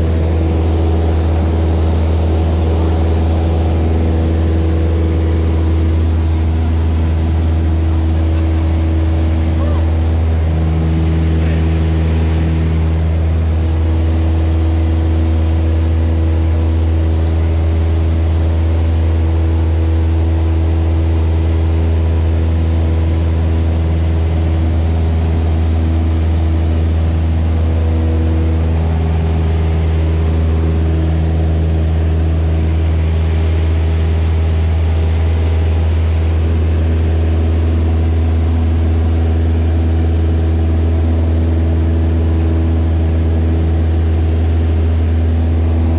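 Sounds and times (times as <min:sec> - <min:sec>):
light plane engine droning: 0:00.0 - 0:45.9.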